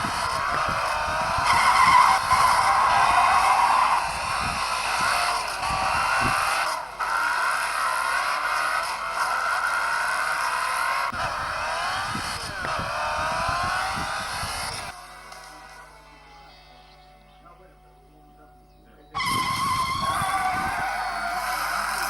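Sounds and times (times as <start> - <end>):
cartoon tyre screech: 0.0 - 15.8, 19.2 - 22.0
squealing tones sliding in pitch: 0.0 - 15.8, 19.2 - 22.0.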